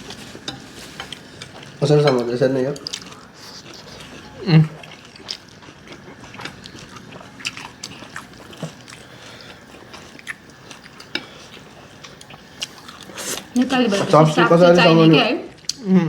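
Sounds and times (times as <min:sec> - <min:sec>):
chewing and mouth noises: 0:00.1 - 0:13.5, 0:15.5 - 0:15.9.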